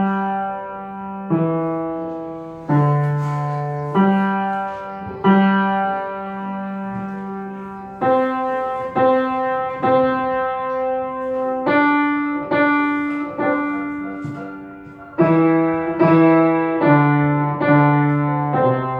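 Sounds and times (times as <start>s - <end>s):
slow piano chords: 0.0s - 18.9s.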